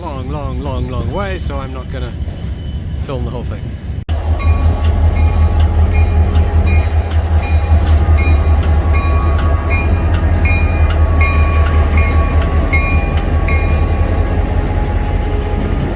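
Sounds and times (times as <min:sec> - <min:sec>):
freight wagons rumbling past: 0:00.0 - 0:15.9.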